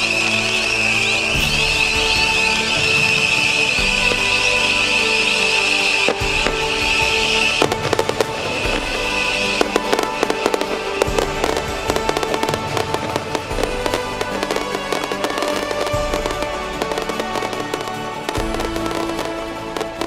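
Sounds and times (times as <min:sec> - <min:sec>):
firework bangs and crackles: 0:00.0 - 0:20.0
firework high hiss: 0:00.0 - 0:20.0
music playing: 0:00.0 - 0:20.0.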